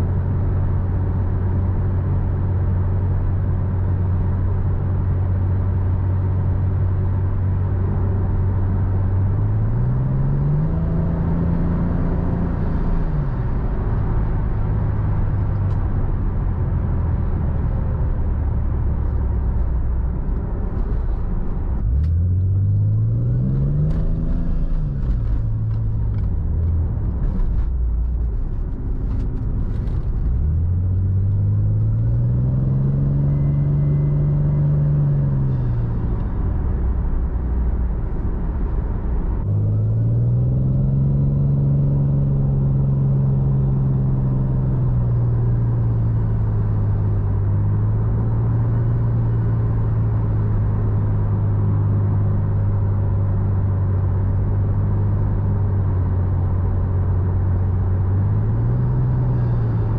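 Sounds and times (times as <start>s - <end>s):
car engine accelerating: 0.0s - 59.9s
road rumble: 0.0s - 59.9s.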